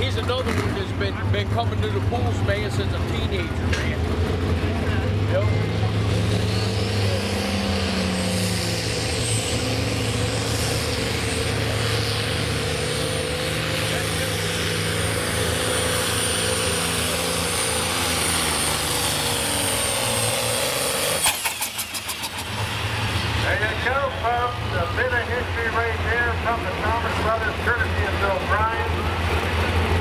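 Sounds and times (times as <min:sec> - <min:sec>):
tractor engine running hard: 0:00.0 - 0:30.0.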